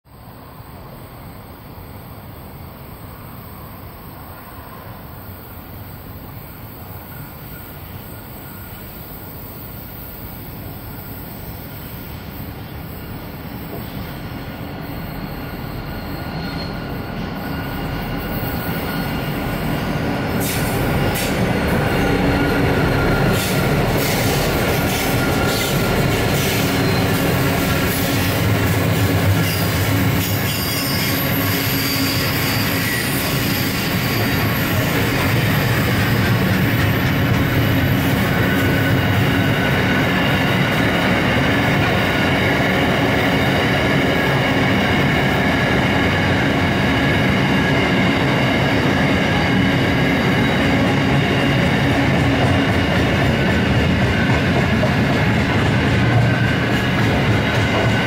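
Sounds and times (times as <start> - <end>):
diesel locomotives approaching: 0.1 - 58.0
train wheel squeal: 2.9 - 58.0.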